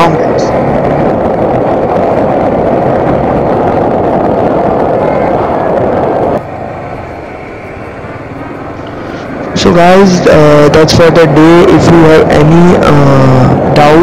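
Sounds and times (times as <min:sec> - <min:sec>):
wind and motorcycle riding noise: 0:00.0 - 0:14.0.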